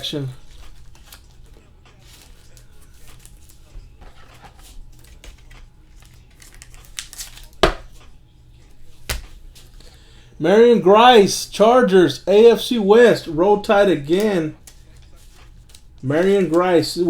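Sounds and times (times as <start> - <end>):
cards and plastic rustling: 0.0 - 10.2, 12.6 - 17.0.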